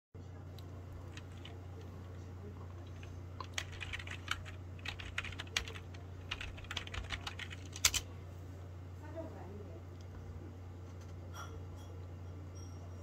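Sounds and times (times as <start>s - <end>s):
steady low hum: 0.2s - 13.0s.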